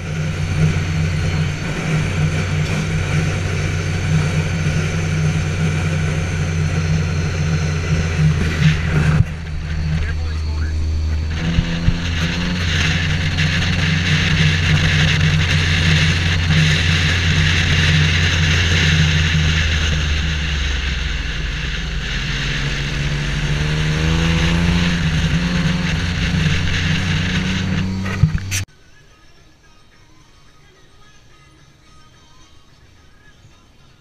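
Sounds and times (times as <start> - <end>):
vehicle engine running: 0.0 - 28.7
wind and road noise: 0.0 - 28.7.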